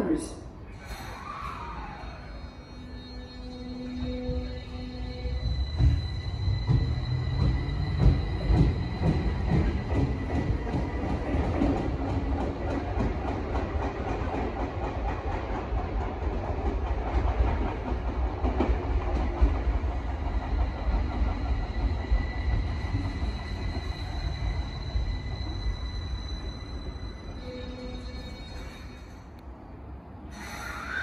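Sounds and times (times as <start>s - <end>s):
train wheels rumbling on rail: 0.8s - 31.0s.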